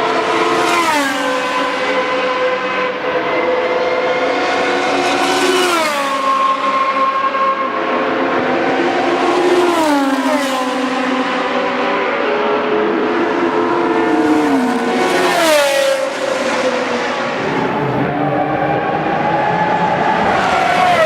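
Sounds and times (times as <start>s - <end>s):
racing cars passing at speed: 0.0s - 21.0s.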